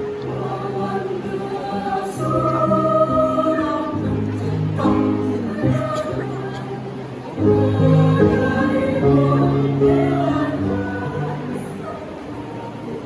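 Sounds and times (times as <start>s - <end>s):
choir singing in parts: 0.0s - 13.0s.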